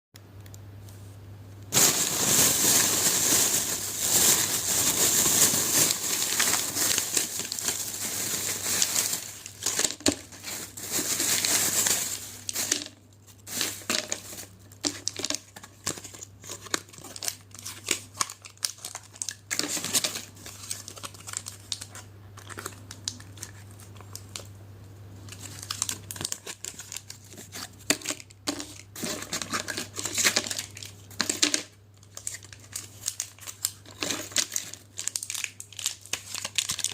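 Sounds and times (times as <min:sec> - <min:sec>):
packaging crinkling and tearing: 0:01.7 - 0:24.5, 0:25.2 - 0:36.9.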